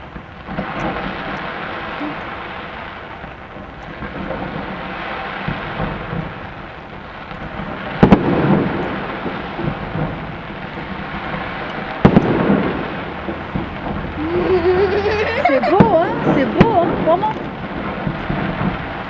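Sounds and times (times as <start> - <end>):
fireworks booms: 0.0 - 19.0
fireworks crackling: 0.0 - 19.0.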